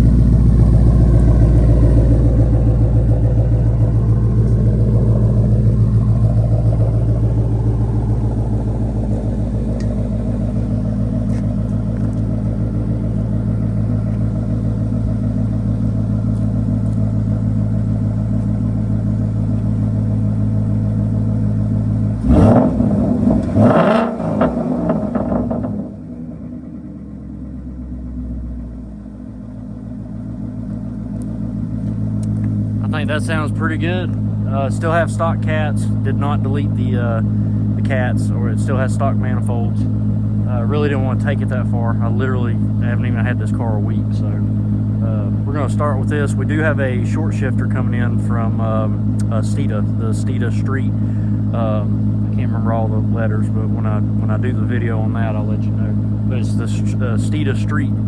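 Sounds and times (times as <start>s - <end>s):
engine revving: 0.0s - 17.0s, 22.0s - 26.8s, 31.2s - 58.0s
car engine idling: 0.0s - 58.0s.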